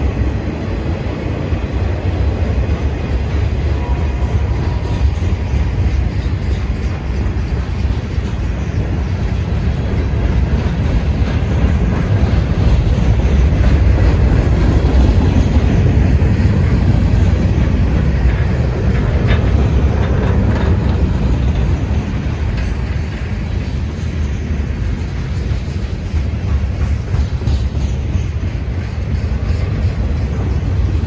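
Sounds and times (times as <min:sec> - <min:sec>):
clickety-clack over rail joints: 0:00.0 - 0:31.0
freight train wheels rumbling: 0:00.0 - 0:31.0.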